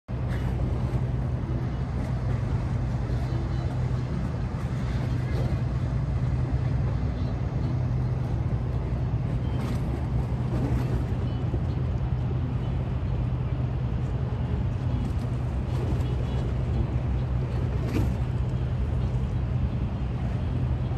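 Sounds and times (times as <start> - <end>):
ferry engines humming: 0.1 - 20.9.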